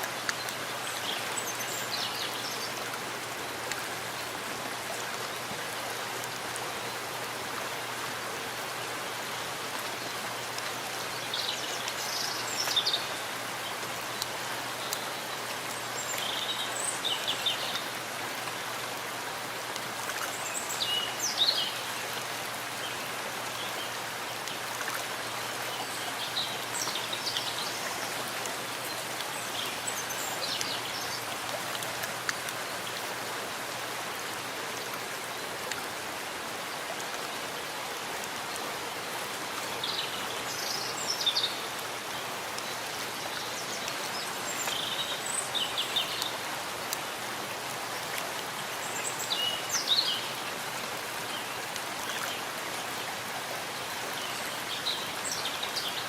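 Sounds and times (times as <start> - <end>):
rain falling in forest: 0.0 - 56.0.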